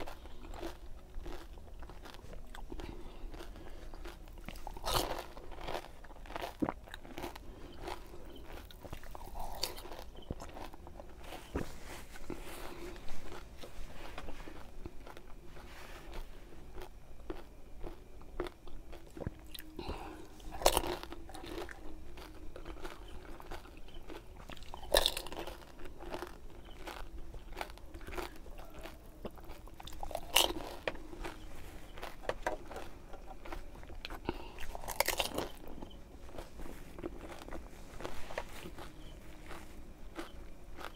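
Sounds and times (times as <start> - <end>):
chewing with full mouth: 0.0 - 40.9
crisp shells crunching: 0.0 - 40.9.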